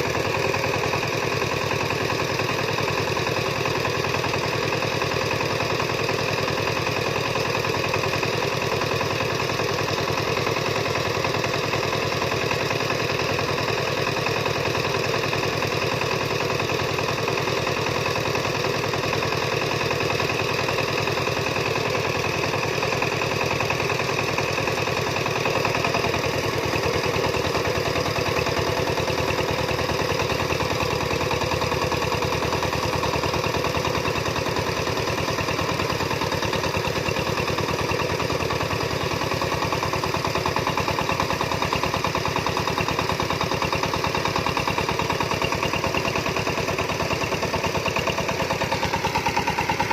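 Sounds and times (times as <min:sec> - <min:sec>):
farm engine chugging: 0:00.0 - 0:49.9.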